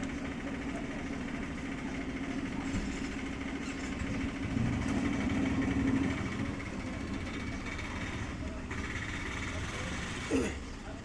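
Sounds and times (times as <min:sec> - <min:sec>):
steady mechanical drone: 0:00.0 - 0:11.0.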